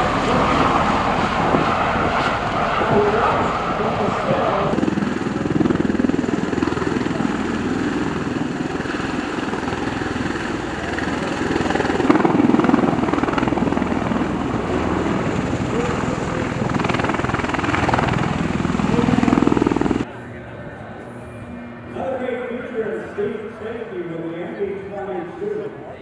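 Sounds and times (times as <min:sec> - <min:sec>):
tiltrotor aircraft hovering: 0:00.0 - 0:26.0.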